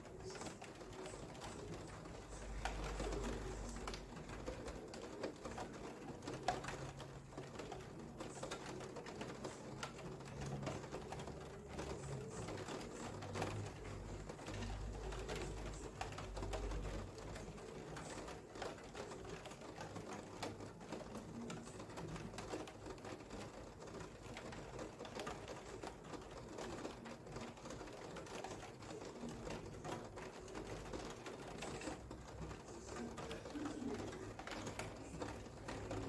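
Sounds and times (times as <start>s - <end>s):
rain dripping and tapping: 0.0s - 36.0s.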